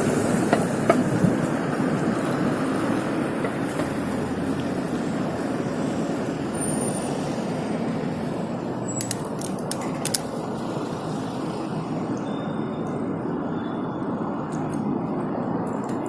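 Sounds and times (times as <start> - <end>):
traffic rumble: 0.0 - 16.0
wind noise: 0.0 - 16.0.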